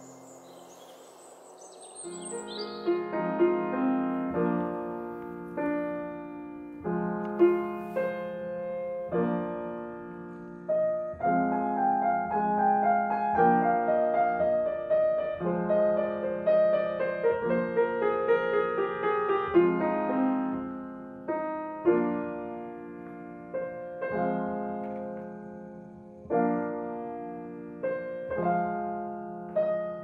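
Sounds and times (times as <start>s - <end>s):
grand piano slow gentle piece: 0.0s - 30.0s.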